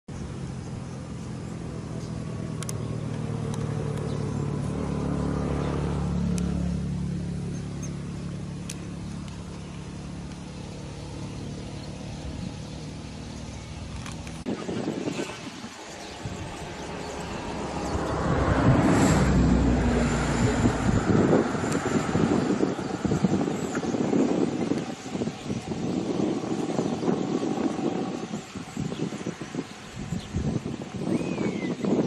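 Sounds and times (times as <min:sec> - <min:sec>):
car engine with road noise: 0:00.1 - 0:32.0.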